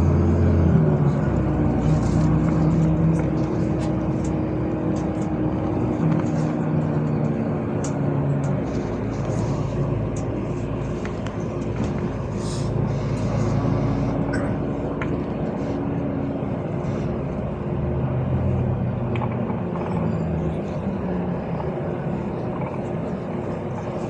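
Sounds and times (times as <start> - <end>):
bus engine humming: 0.0 - 24.0
road noise: 0.0 - 24.0.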